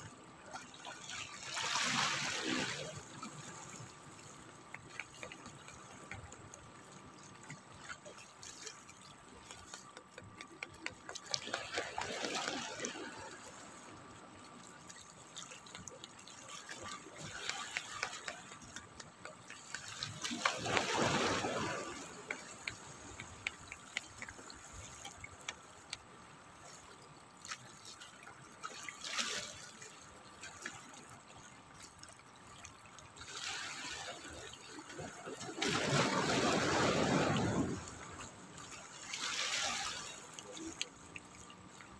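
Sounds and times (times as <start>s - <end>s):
small waves lapping against rocks: 0.0s - 41.9s
water trickling and clicking: 0.0s - 41.9s.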